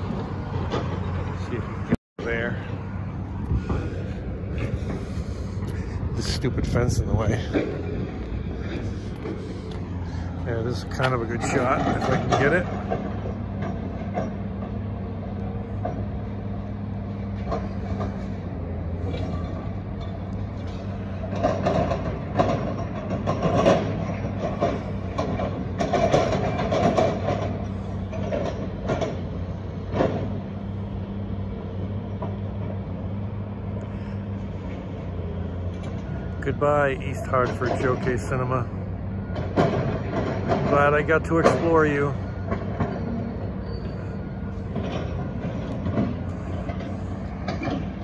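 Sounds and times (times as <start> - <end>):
demolition clanks and crashes: 0.0 - 33.2, 33.9 - 48.0
excavator diesel engine droning: 0.0 - 48.0.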